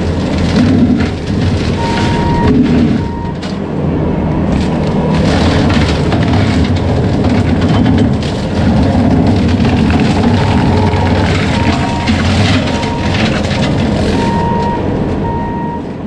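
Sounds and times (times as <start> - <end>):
wood cracking and snapping: 0.0 - 3.6, 4.5 - 14.8
diesel engine under load: 0.0 - 16.0.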